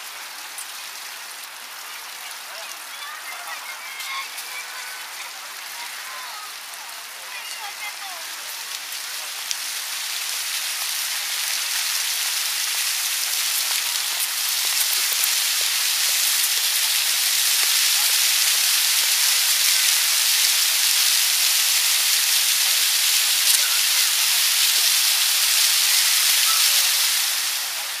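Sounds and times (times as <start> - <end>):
fountain water jets splashing: 0.0 - 28.0.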